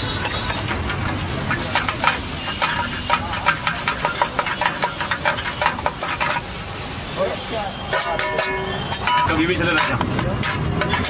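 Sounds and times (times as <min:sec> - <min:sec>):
metal spatula scraping pan: 0:00.0 - 0:06.5, 0:07.8 - 0:11.0
eggs sizzling: 0:00.0 - 0:11.0.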